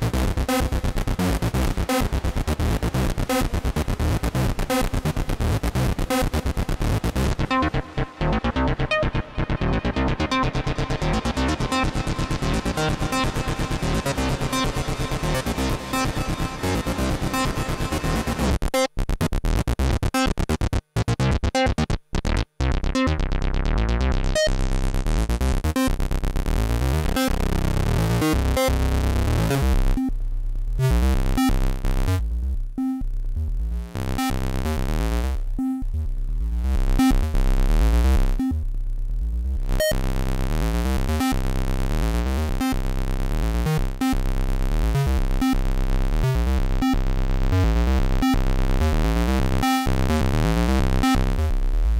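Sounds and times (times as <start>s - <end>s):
synthesizer sequenced pattern: 0.0s - 18.6s, 26.5s - 51.9s.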